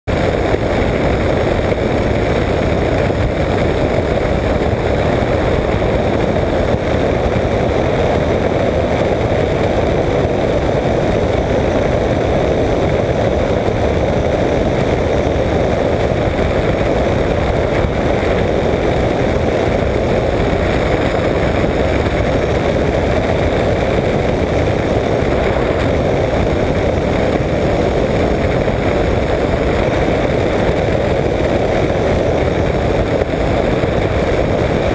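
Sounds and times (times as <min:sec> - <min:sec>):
microlight engine and propeller: 0:00.1 - 0:34.9
wind rushing over microphone: 0:00.1 - 0:34.9.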